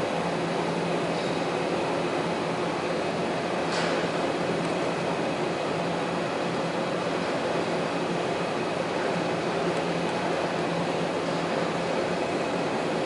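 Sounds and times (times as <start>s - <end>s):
crane engines droning: 0.0s - 13.0s.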